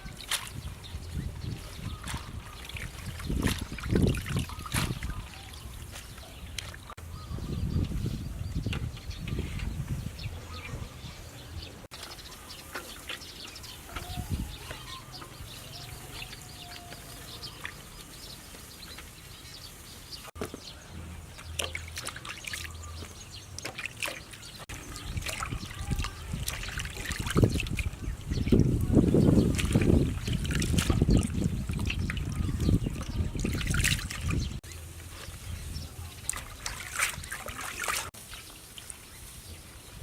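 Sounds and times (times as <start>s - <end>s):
water trickling and splashing: 0.0s - 7.0s, 11.8s - 40.0s.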